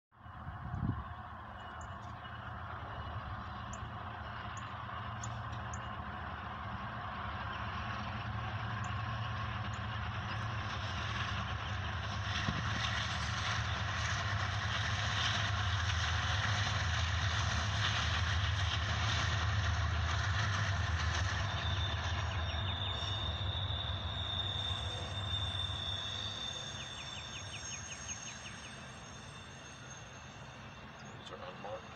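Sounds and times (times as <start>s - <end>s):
wheels rumbling on rails: 0.1s - 31.9s
locomotive engine hum: 0.2s - 31.9s
high steady squeal: 0.5s - 31.9s.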